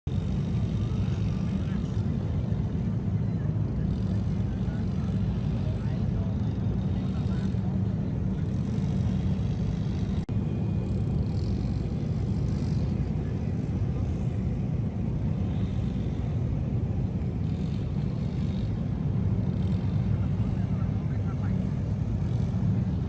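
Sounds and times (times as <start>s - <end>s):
traffic rumble: 0.1s - 23.0s.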